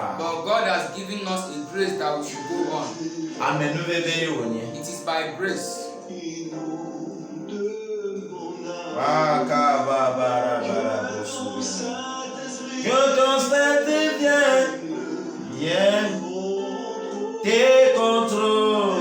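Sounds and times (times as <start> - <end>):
man singing worship song: 0.0 - 19.0.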